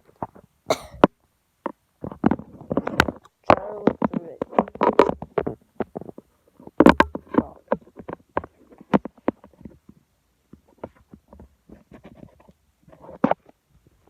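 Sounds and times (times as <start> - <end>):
handling noise clicks and rustles: 0.0 - 14.0.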